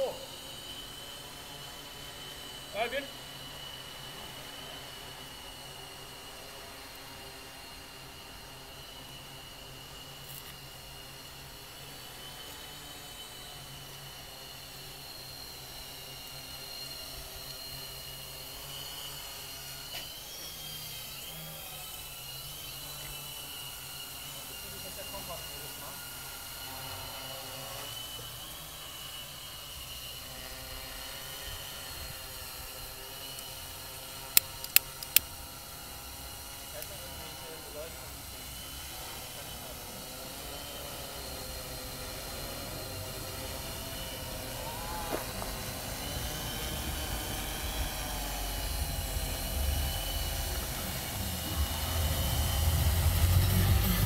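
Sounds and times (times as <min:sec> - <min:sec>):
drone propellers whirring: 0:00.0 - 0:54.0
high wavering whine: 0:00.0 - 0:54.0.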